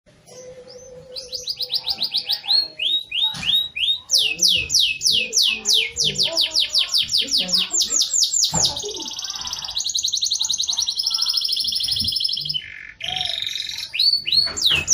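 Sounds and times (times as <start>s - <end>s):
canary singing trills: 0.1s - 14.9s.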